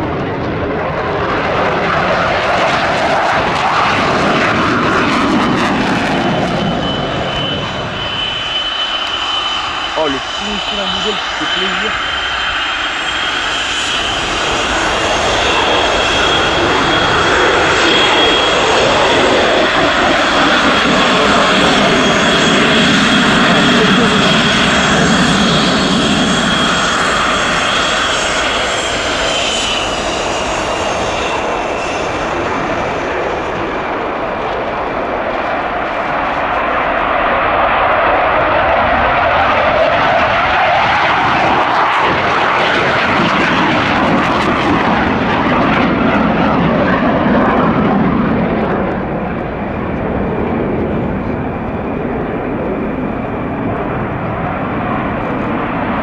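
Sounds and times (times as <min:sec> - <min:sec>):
jet engine roar: 0:00.0 - 0:56.0
jet engine whine: 0:00.0 - 0:56.0.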